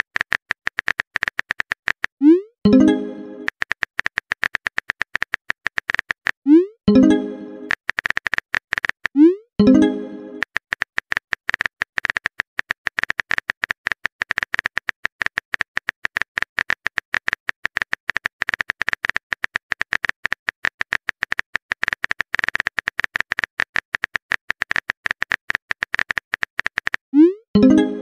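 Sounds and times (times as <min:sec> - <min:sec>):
phone keyboard typing clicks: 0:00.0 - 0:28.0.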